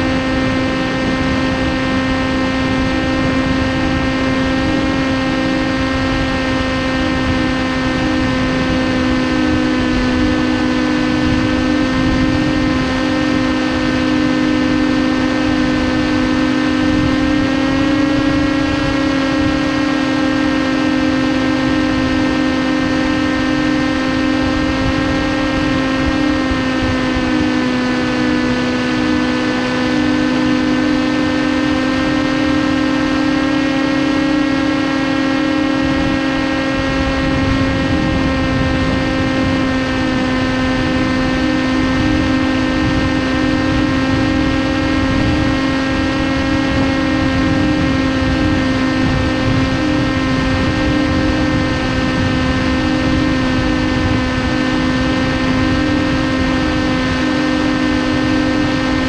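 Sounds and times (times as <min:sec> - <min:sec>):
electric motor and propeller whirring: 0:00.0 - 0:59.0
wind rushing over microphone: 0:00.0 - 0:59.0.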